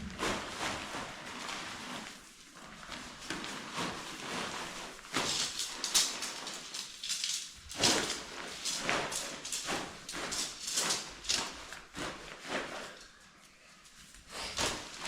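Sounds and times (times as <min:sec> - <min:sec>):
tent fabric rustling: 0:00.0 - 0:15.0.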